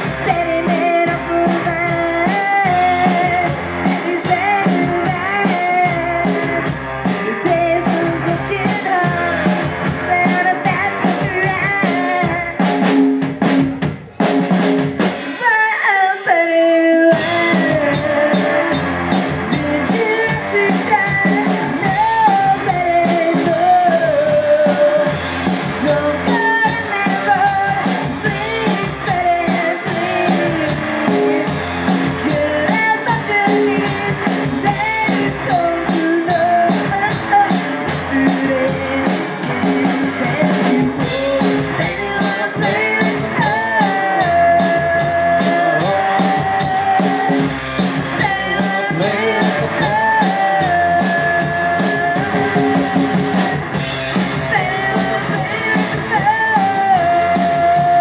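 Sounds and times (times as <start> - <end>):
woman singing: 0.0 - 12.9, 15.3 - 58.0
rockabilly band playing: 0.0 - 58.0.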